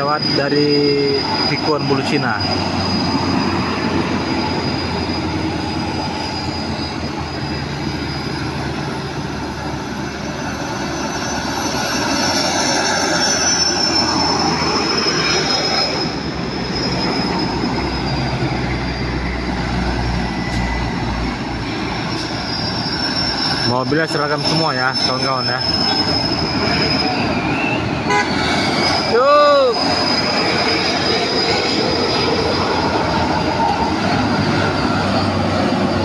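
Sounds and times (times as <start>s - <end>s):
diesel truck engines: 0.0s - 36.0s
thin high whine: 0.0s - 36.0s
tyres on road: 0.0s - 36.0s.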